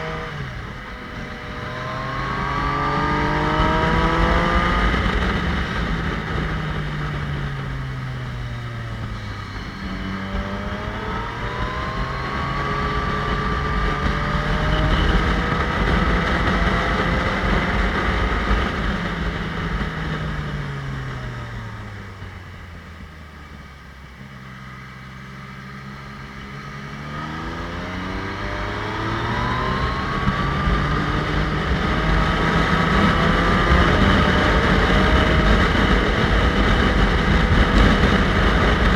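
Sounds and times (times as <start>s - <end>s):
motorcycle engine changing gear: 0.0s - 23.0s, 25.7s - 38.9s.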